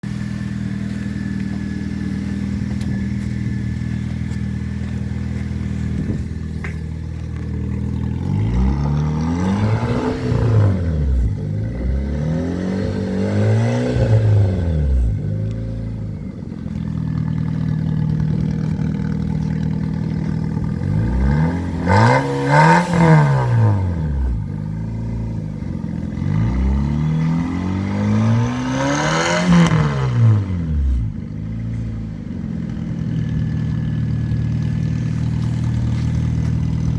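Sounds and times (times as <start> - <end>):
car engine idling and revving: 0.0 - 36.9.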